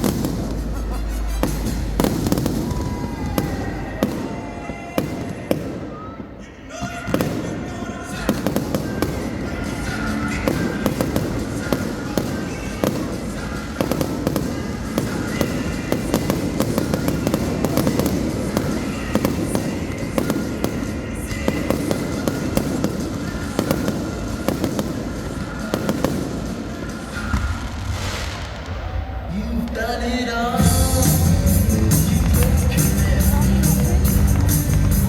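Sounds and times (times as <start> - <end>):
music playing: 0.0 - 5.8, 6.6 - 35.0
fireworks bangs and crackles: 0.0 - 35.0.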